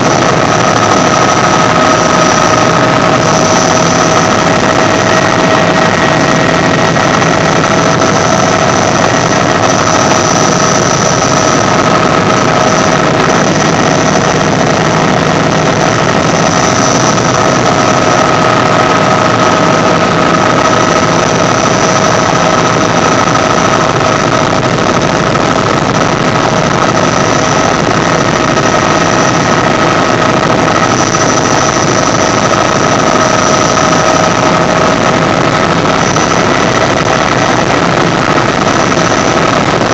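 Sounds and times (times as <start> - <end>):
helicopter engine and rotor noise: 0.0 - 39.9
helicopter turbine whine: 0.0 - 39.9.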